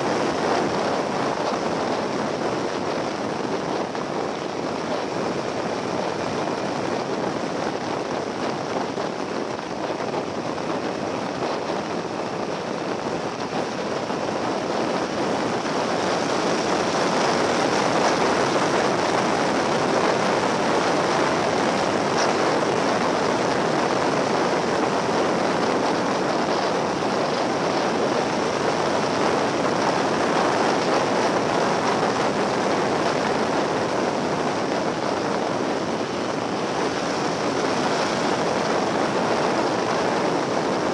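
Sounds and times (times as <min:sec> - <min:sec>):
motorcycle road noise: 0:00.0 - 0:40.9
wind rush: 0:00.0 - 0:40.9.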